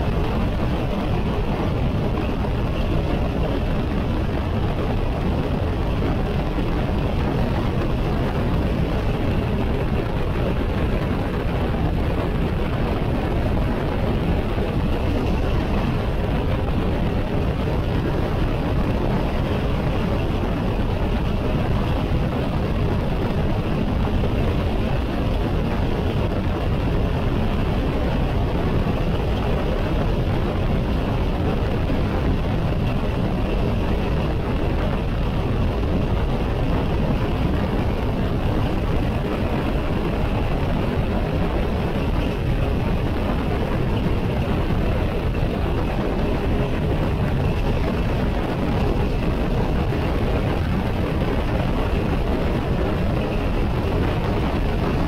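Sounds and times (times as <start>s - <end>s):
wind rushing: 0.0s - 55.0s.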